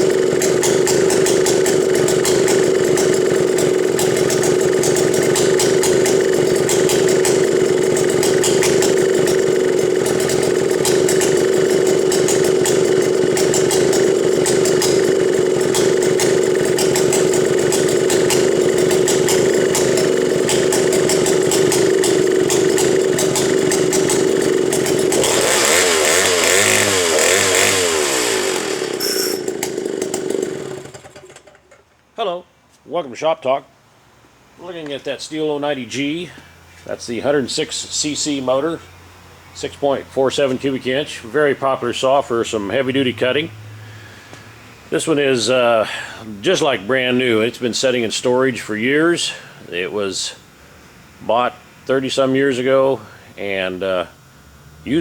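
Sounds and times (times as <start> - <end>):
chainsaw engine running: 0.0 - 31.8, 34.6 - 38.9, 39.6 - 50.6, 51.2 - 55.0.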